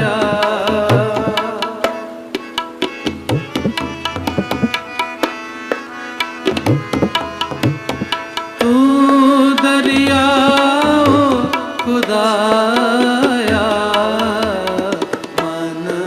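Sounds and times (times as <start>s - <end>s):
harmonium chord: 0.0s - 16.0s
tabla strokes: 0.0s - 16.0s.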